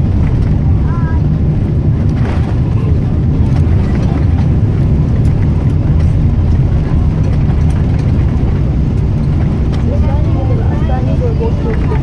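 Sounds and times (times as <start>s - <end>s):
jet cabin rumble: 0.0s - 12.0s.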